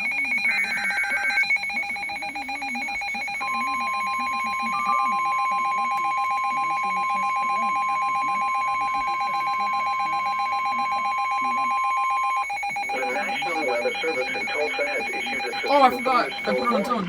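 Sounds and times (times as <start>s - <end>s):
rapidly pulsing electronic alert tone: 0.0s - 17.0s
steady single-pitch alarm tone: 0.0s - 17.0s.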